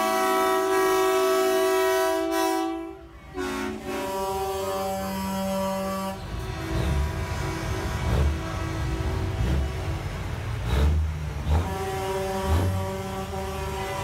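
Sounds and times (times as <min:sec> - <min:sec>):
heavy truck engine running: 0:00.0 - 0:14.0
truck air horn blasts: 0:00.0 - 0:14.0.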